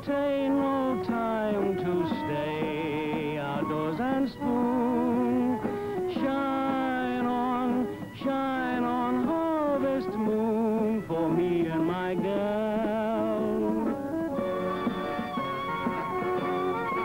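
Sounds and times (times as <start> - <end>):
man singing with vibrato: 0.0 - 14.2
accordion accompaniment: 0.0 - 17.0.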